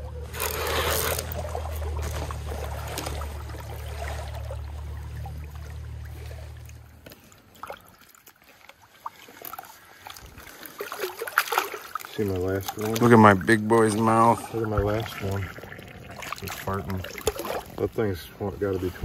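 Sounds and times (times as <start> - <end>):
river water flowing: 0.0 - 19.0
small water splashes: 0.0 - 19.0.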